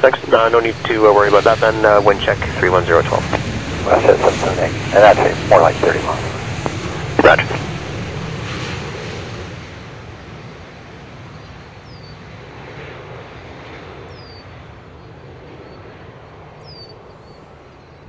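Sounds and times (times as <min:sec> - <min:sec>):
jet engine rumble on rollout: 0:00.0 - 0:18.0.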